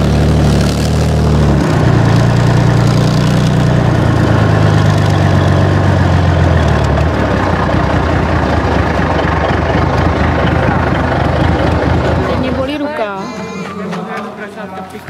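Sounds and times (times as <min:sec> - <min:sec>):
armoured vehicle engine droning: 0:00.0 - 0:15.0
wide rumbling noise: 0:00.0 - 0:15.0.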